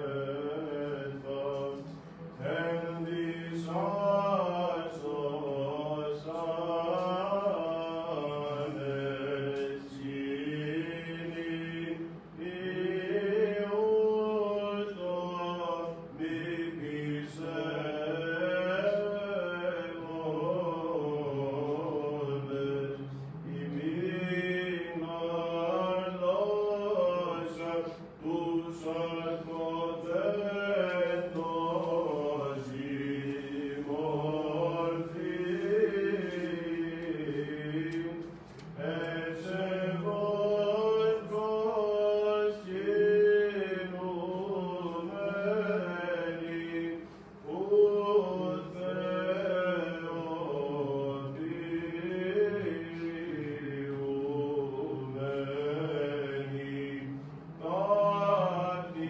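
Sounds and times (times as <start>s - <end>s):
low held vocal drone: 0.0s - 59.0s
man chanting: 0.0s - 59.0s.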